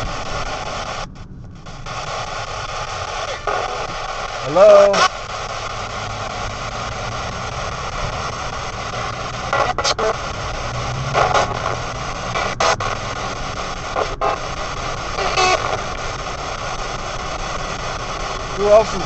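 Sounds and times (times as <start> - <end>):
low car rumble: 0.0 - 19.0
radio static: 0.0 - 19.0
snatches of radio station audio: 0.0 - 19.0.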